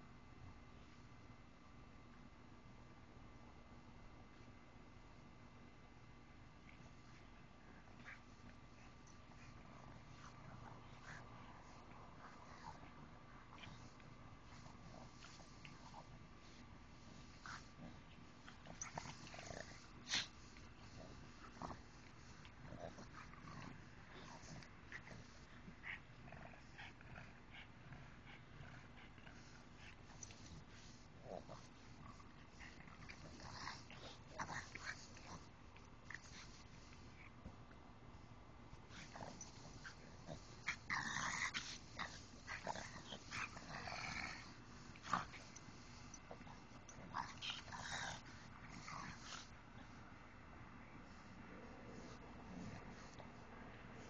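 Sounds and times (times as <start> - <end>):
dogs growling in play: 3.6 - 54.0.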